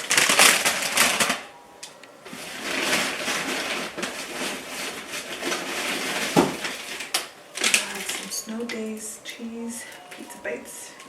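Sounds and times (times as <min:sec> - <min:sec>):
food packaging rustling: 0:00.0 - 0:11.0.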